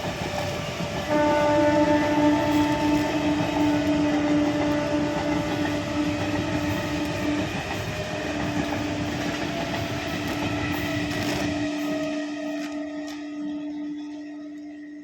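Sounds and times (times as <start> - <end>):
train wheels rumbling and rattling: 0.0 - 13.2.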